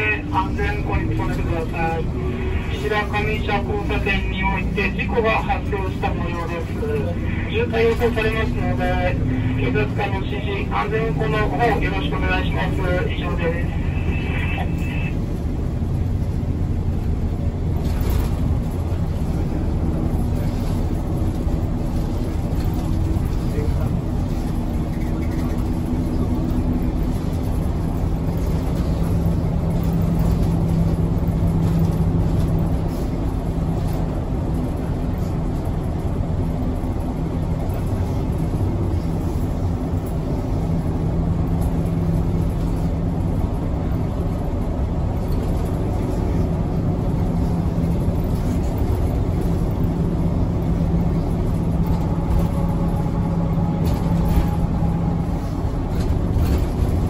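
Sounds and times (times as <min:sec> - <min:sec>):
bus engine and road noise: 0:00.0 - 0:57.0
low hum: 0:00.0 - 0:57.0.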